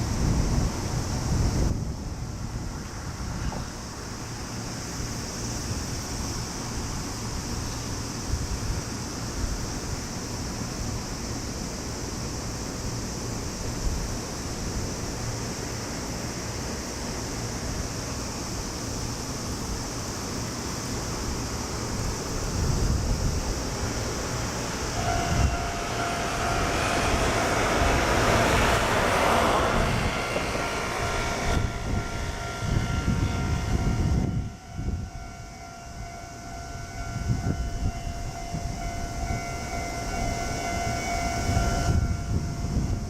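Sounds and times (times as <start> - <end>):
high-pitched hiss: 0.0 - 43.0
wind rumbling on microphone: 0.0 - 43.0.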